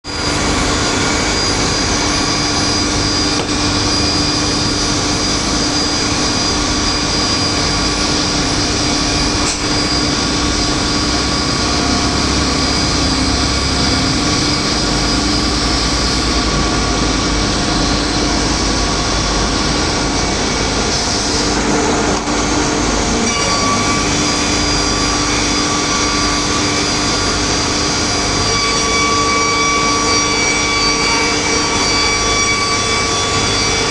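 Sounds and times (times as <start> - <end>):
saw machine whining and rumbling: 0.0 - 33.9.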